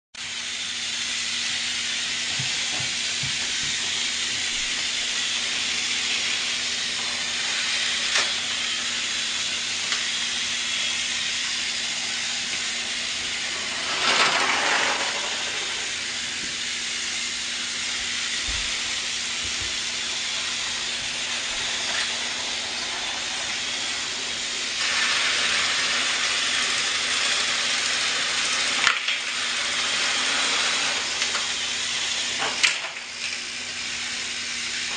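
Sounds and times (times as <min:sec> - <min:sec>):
toy trains whirring: 0:00.2 - 0:34.9.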